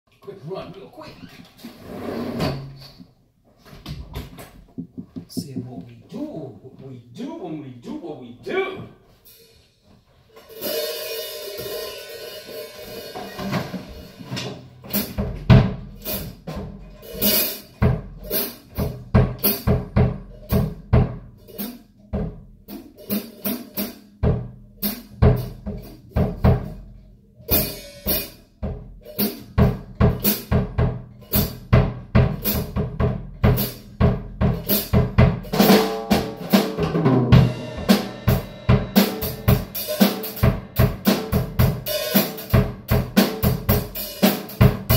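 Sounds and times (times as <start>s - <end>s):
drum kit playing: 4.4s - 6.6s, 10.3s - 44.9s.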